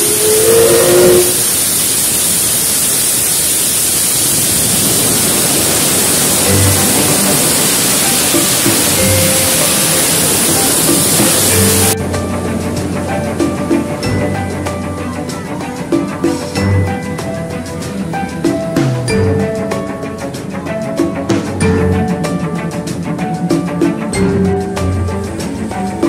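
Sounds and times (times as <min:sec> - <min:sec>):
steam locomotive venting steam: 0:00.0 - 0:26.0.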